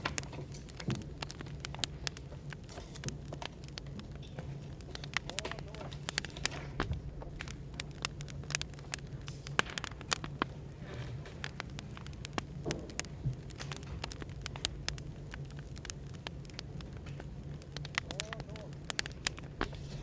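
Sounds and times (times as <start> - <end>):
cafe background hum: 0.0 - 20.0
wood fire crackling: 0.0 - 20.0.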